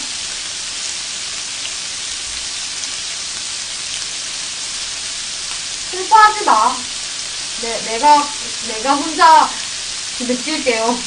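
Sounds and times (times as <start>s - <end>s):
food sizzling on grill plate: 0.0s - 11.0s.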